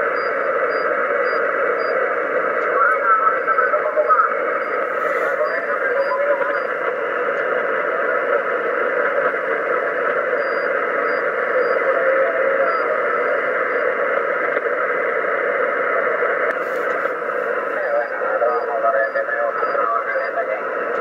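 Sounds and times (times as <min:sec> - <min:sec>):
shortwave radio static hiss: 0:00.0 - 0:21.0.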